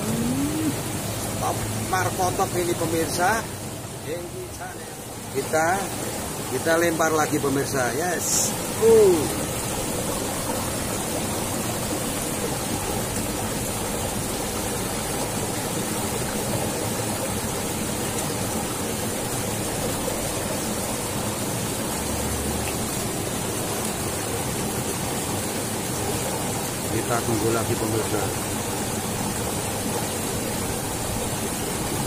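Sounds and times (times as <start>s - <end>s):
water pouring from culvert: 0.0s - 32.0s.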